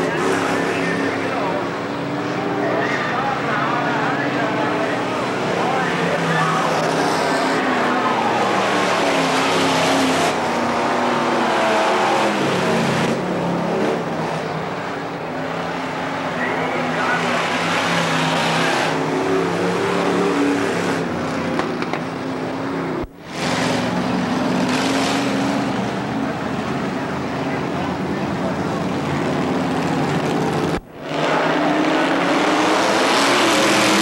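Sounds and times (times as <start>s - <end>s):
stock car engines racing: 0.0s - 34.0s.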